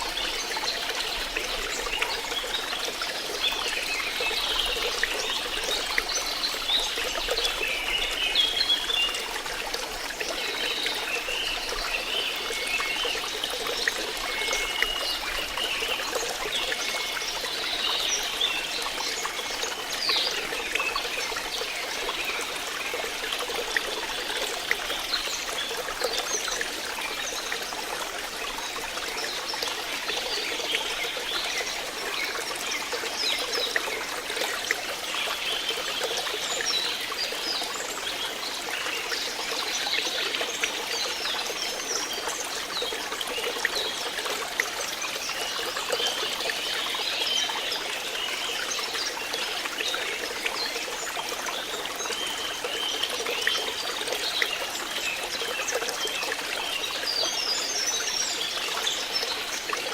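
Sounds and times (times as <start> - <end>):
water trickling and bubbling: 0.0 - 59.9.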